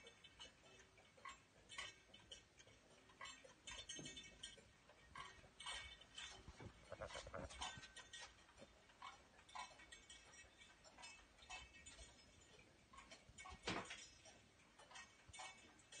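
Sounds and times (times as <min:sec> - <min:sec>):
wall clock ticking: 0:00.0 - 0:16.0.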